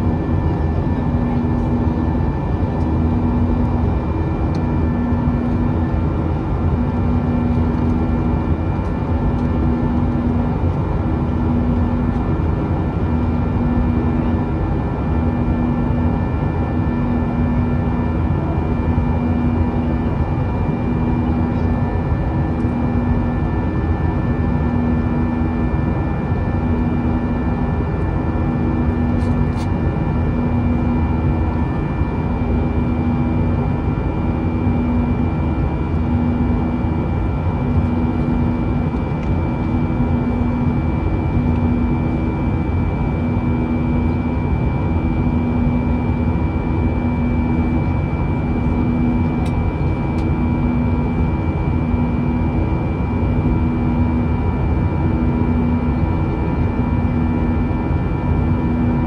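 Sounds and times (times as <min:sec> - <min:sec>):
jet cabin drone: 0:00.0 - 0:59.0.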